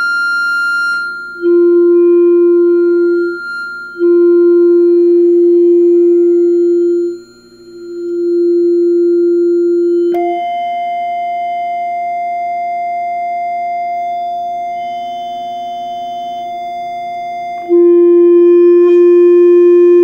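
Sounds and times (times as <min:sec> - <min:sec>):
steady held musical tone: 0:00.0 - 0:20.0.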